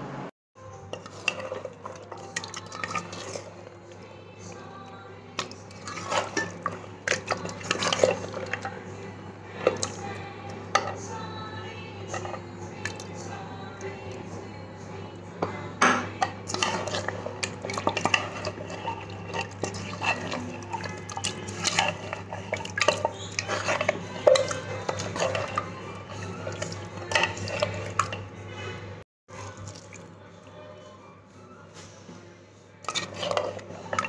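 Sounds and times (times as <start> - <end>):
spoon stirring in a pot: 0.7 - 30.8, 32.8 - 34.0.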